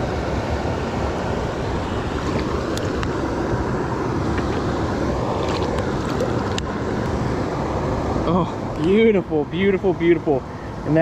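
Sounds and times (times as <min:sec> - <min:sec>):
water rushing over a dam: 0:00.0 - 0:11.0.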